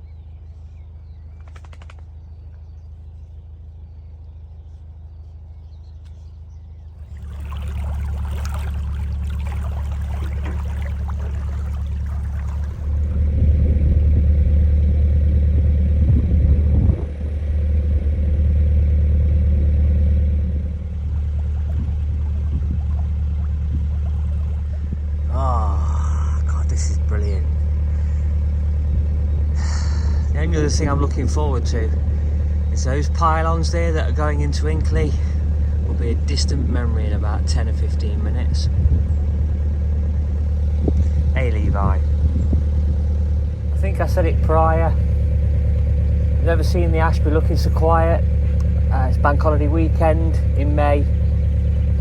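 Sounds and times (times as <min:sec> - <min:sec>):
boat diesel engine droning: 0:00.0 - 0:52.0.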